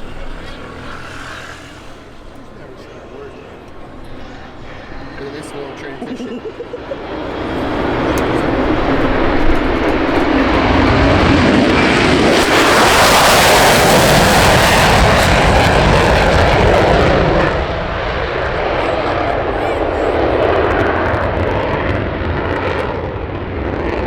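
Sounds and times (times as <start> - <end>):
airplane engine passing: 0.0 - 24.0.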